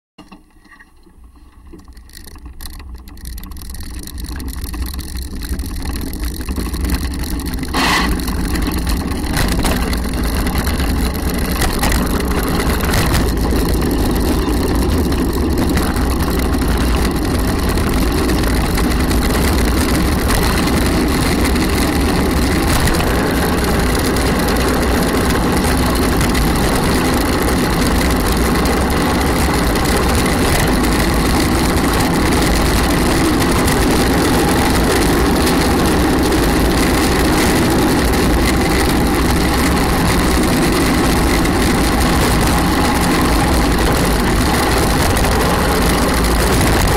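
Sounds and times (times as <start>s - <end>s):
cart wheels rumbling on asphalt: 0.4s - 46.9s
wind rushing over microphone: 8.0s - 46.9s.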